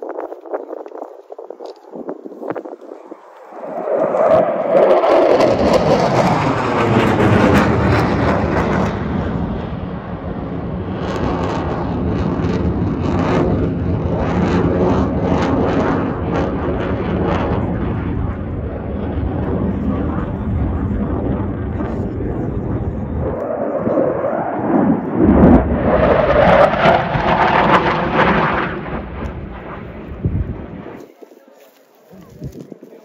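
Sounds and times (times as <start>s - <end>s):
jet aircraft roar: 0.4s - 31.0s.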